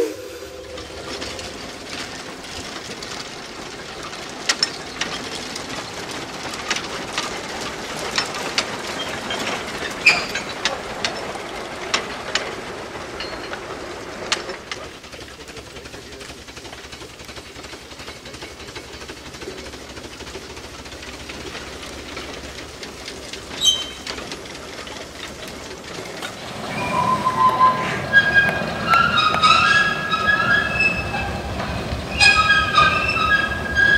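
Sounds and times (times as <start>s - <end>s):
model steam train running: 0.0s - 33.9s
wheels clicking over track: 0.0s - 33.9s.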